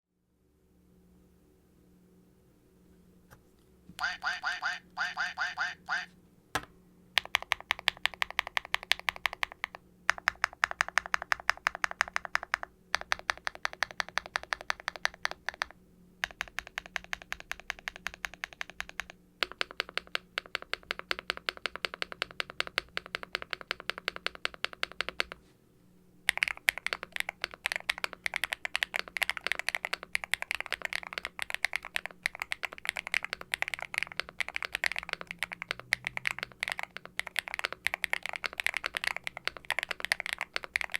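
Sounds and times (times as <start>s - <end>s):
mechanical keyboard typing: 6.6s - 25.4s, 26.3s - 40.9s.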